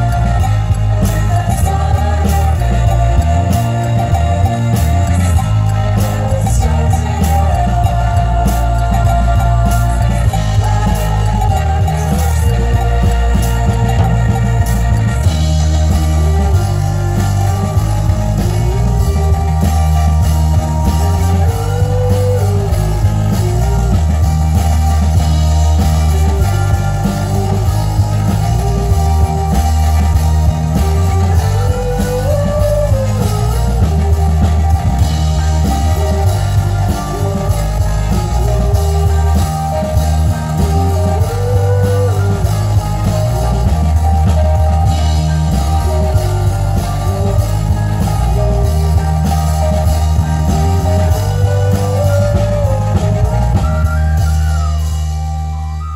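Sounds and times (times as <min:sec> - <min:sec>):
heavy bass line: 0:00.0 - 0:55.9
live band playing: 0:00.0 - 0:55.9.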